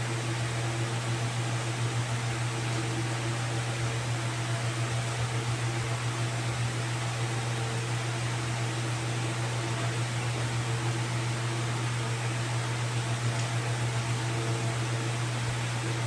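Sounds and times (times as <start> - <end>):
low machine hum with hiss: 0.0 - 16.0.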